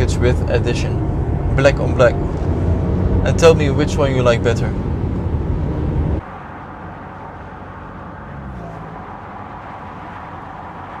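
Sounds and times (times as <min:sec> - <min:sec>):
vehicle low rumble: 0:00.0 - 0:11.0.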